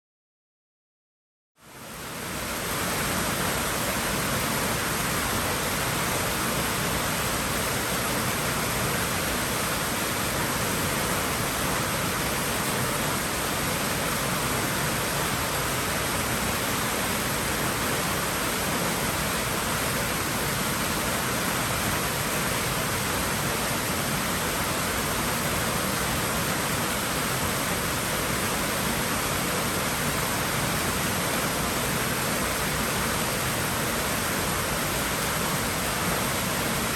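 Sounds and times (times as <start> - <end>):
pool water rushing: 1.6 - 36.9.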